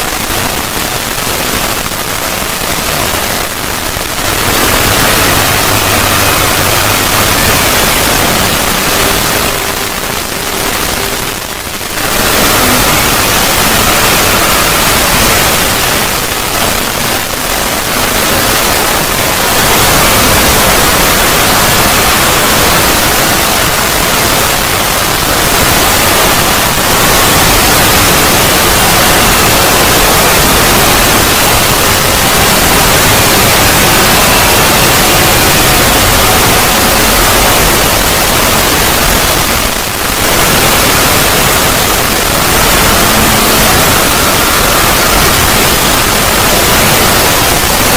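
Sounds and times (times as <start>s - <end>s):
loud harsh static noise: 0.0s - 47.9s.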